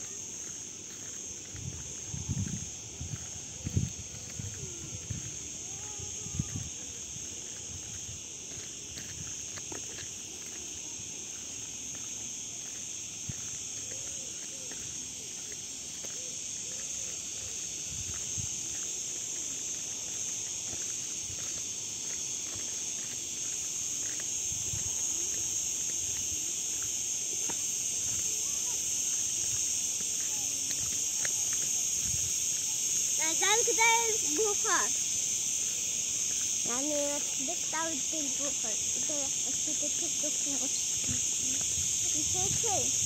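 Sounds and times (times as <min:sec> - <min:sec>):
insects shrilling: 0:00.0 - 0:43.0.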